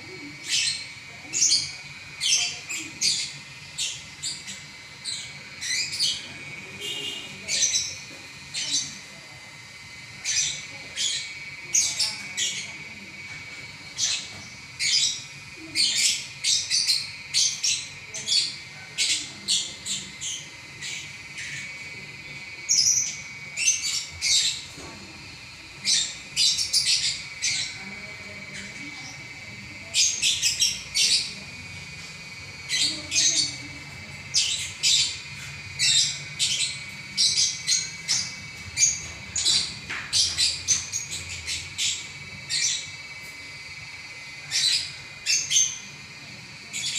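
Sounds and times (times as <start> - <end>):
lovebird chattering: 0.1 - 46.9.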